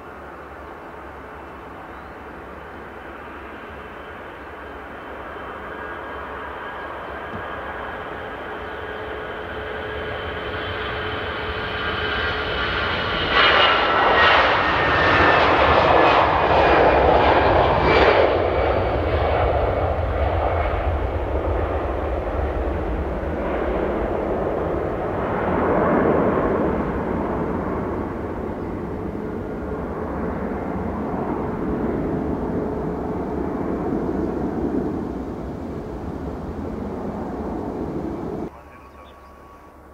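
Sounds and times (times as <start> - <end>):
jet engines at takeoff: 0.0 - 39.9.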